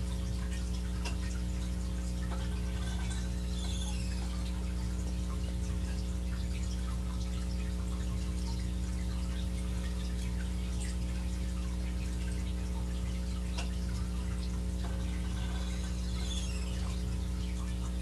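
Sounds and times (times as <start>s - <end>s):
faint crackles and ticks: 0.0s - 17.9s
low electrical hum: 0.0s - 18.0s.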